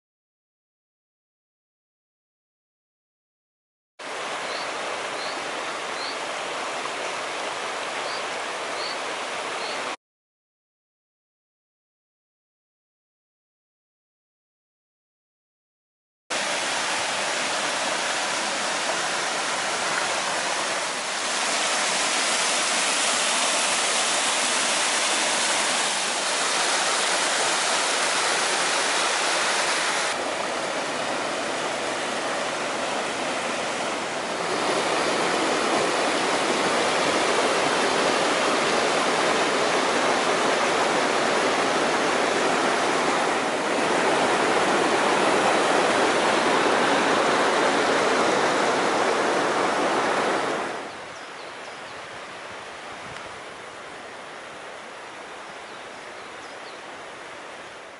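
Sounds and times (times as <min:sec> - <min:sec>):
mountain stream rushing over stones: 0:04.0 - 0:10.0, 0:16.3 - 0:57.9.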